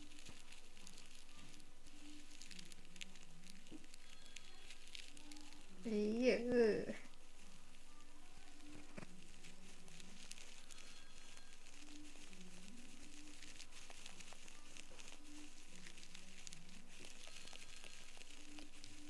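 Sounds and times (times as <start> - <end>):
ear-cleaning tool crackling in earwax: 0.0 - 19.0.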